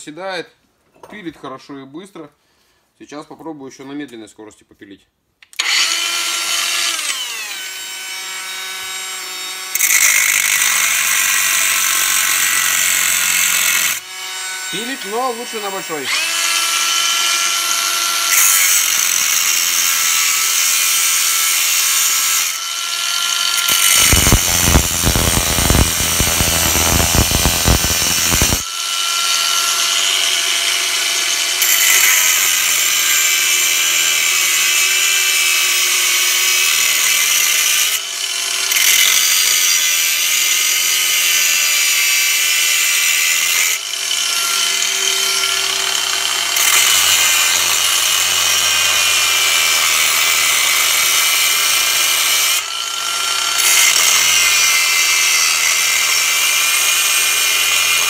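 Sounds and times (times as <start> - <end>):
angle grinder cutting metal: 5.6 - 58.0.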